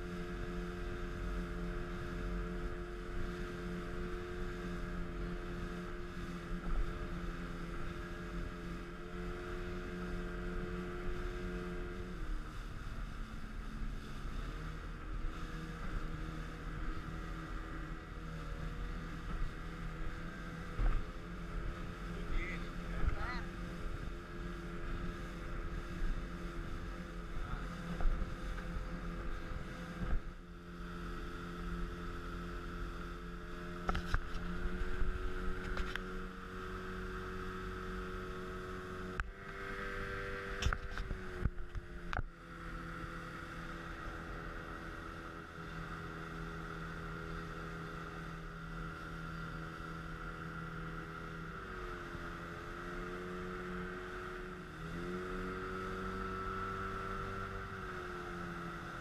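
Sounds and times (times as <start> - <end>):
speedboat engine running: 0.0 - 59.0.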